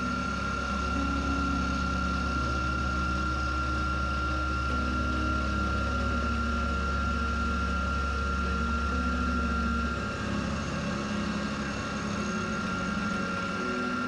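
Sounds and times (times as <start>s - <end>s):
milling machine motor whine: 0.0s - 14.0s.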